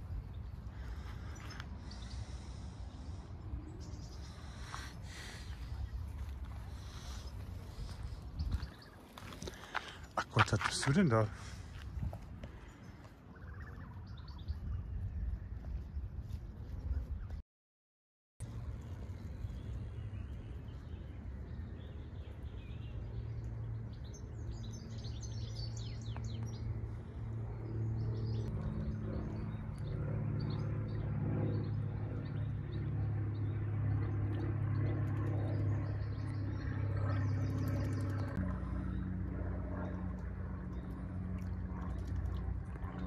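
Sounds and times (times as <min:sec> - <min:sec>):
low motor drone: 0:00.0 - 0:17.4, 0:18.4 - 0:43.0
small birds chirping: 0:00.1 - 0:17.4, 0:18.7 - 0:39.2.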